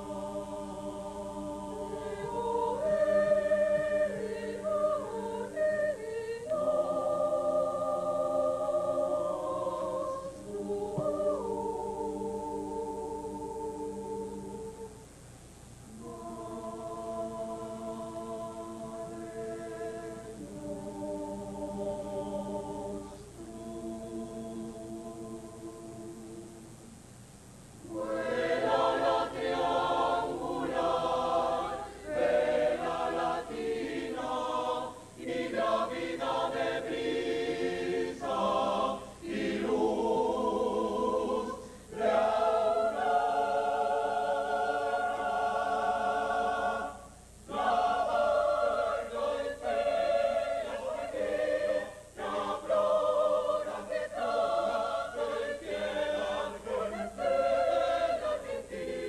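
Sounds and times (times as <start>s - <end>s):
mixed choir singing: 0.0s - 15.0s, 15.9s - 26.7s, 27.8s - 59.0s.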